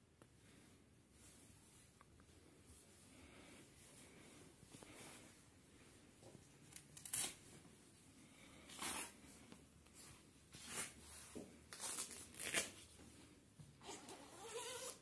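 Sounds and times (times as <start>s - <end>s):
jacket fabric rustling: 0.5s - 15.0s.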